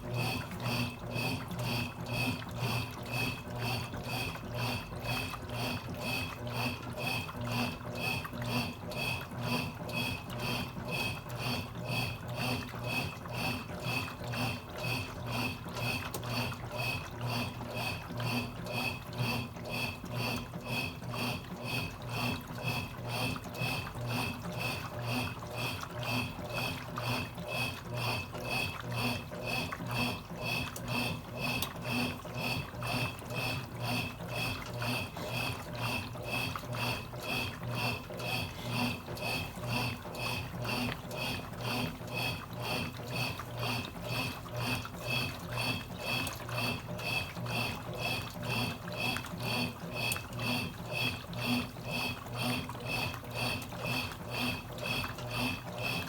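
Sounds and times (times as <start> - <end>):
washing machine low hum: 0.0 - 56.0
washing machine water sloshing: 0.0 - 56.0.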